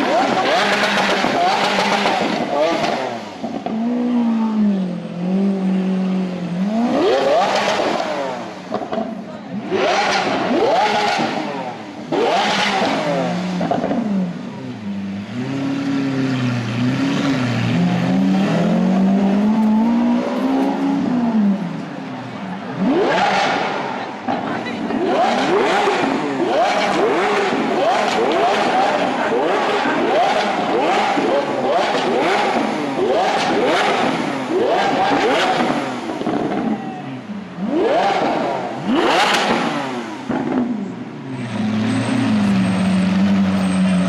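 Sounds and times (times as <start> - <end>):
sports car engine revving: 0.0 - 43.6.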